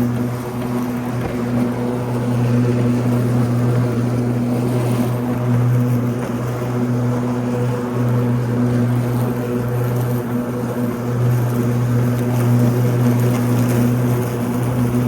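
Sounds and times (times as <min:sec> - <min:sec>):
electric riding mower humming: 0:00.0 - 0:15.0.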